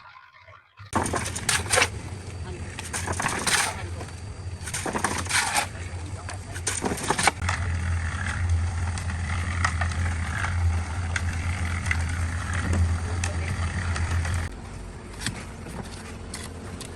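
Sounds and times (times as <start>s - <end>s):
motor humming: 0.9s - 16.9s
sharp knocks and scrapes: 0.9s - 16.9s.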